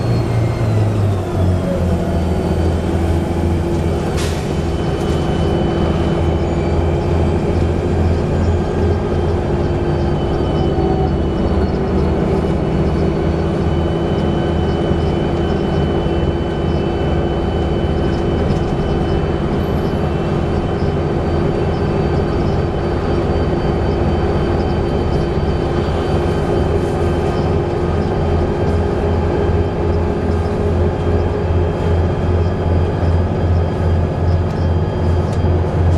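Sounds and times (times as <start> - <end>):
bus engine drone: 0.0 - 35.9.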